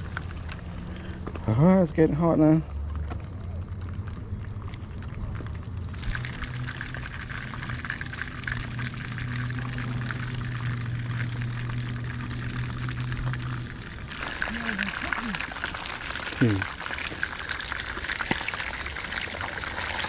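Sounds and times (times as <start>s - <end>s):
fish frying in hot oil: 0.0s - 1.2s, 3.2s - 20.0s
steady low hum: 0.0s - 20.0s.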